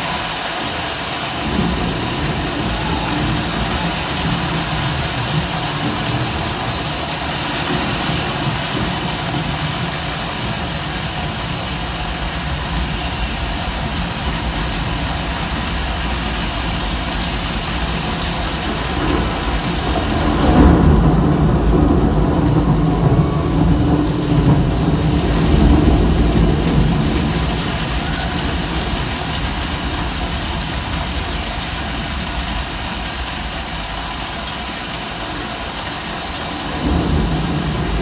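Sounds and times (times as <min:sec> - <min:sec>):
choir body percussion rain rush: 0:00.0 - 0:38.0
low rumble: 0:01.4 - 0:38.0.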